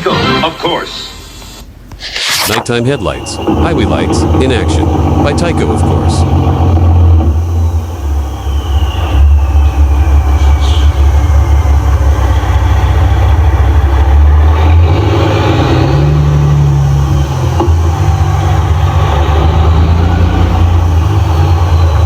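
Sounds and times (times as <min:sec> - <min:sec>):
vehicle engine rumbling: 0:01.7 - 0:22.0.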